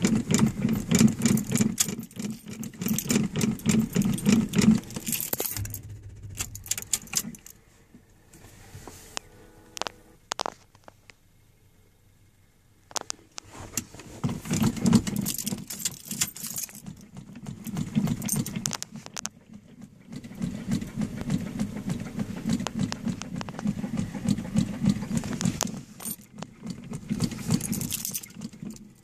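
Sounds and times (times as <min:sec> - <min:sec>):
car engine cranking on starter: 0:00.0 - 0:29.0.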